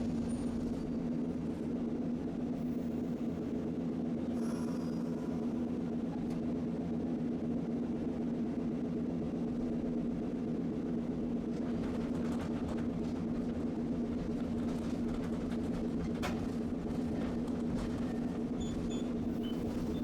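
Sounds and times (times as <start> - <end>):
streetcar humming and rumbling: 0.0 - 20.0.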